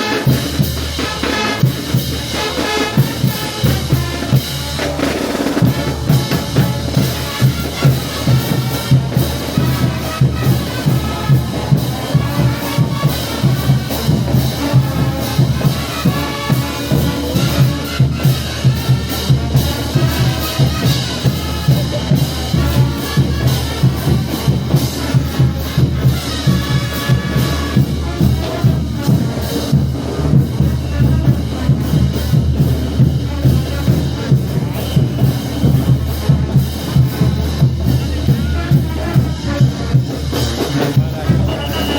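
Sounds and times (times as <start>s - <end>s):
bass drum and snare beat: 0.0s - 41.9s
brass band marching tune: 0.0s - 41.9s.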